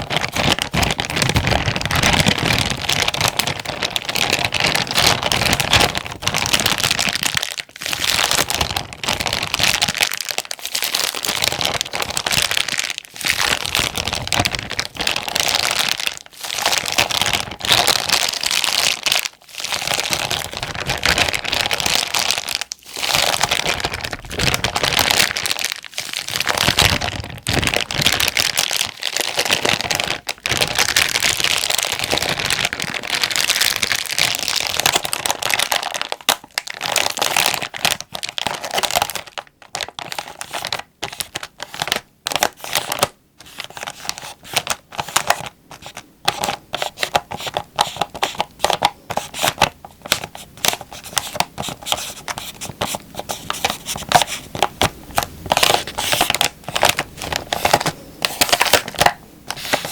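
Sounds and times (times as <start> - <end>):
plastic bag crinkling: 0.0 - 59.9.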